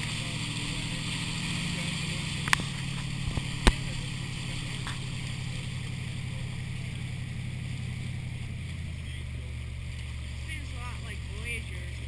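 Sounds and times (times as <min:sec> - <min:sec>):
boat engine running: 0:00.0 - 0:12.0
water and wind rushing along hull: 0:00.0 - 0:12.0.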